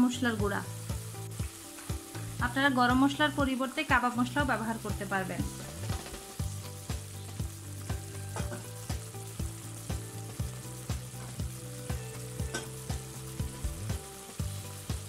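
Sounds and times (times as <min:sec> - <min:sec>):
background music with steady beat: 0:00.0 - 0:15.0
masala sizzling and bubbling in pan: 0:00.0 - 0:15.0.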